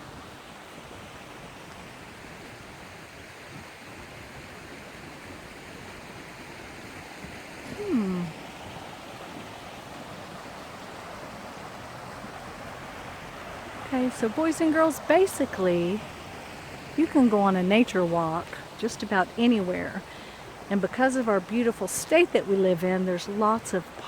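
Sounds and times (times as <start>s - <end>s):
wind through trees: 0.0s - 24.0s.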